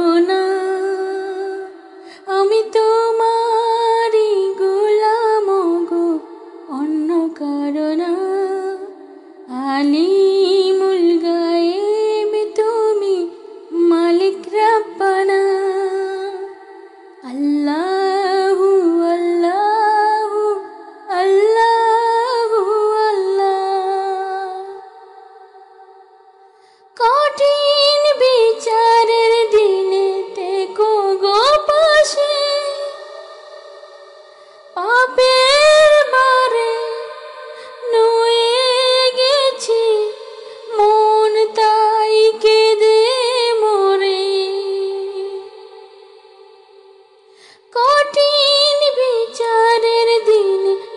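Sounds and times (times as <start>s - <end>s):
woman singing: 0.0s - 26.1s, 26.8s - 50.9s.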